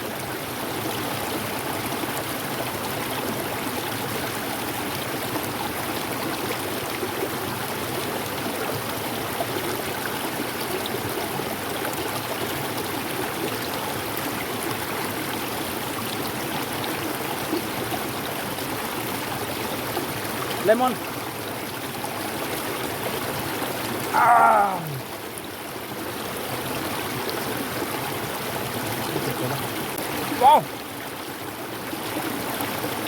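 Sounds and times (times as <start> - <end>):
mountain river rushing: 0.0 - 33.0.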